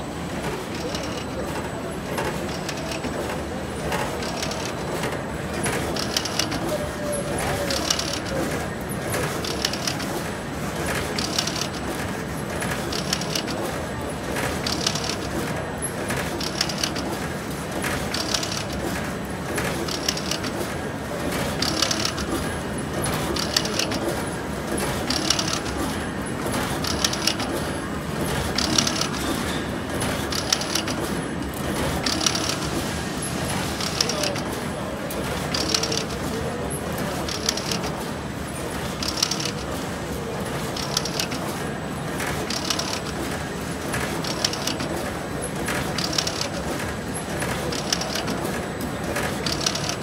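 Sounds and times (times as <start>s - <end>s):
machine mechanical clatter: 0.3s - 50.0s.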